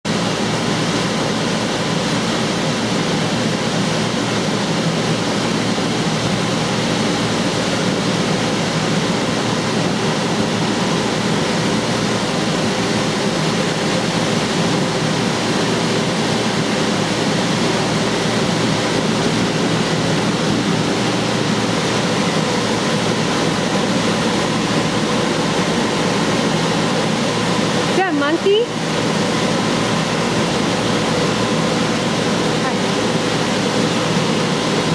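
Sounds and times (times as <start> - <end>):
air blower whirring: 0.0 - 34.9.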